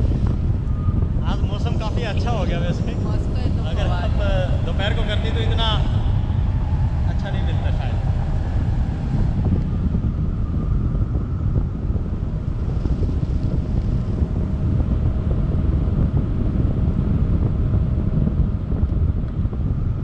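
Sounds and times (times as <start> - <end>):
faint steady hum: 0.0 - 20.0
wind buffeting microphone: 0.0 - 20.0.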